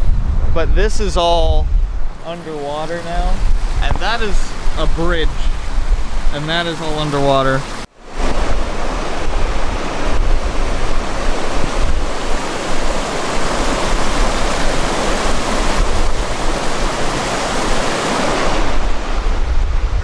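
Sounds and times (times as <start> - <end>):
wind buffeting microphone: 0.0 - 6.5, 7.7 - 20.0
creek water rushing: 2.1 - 20.0.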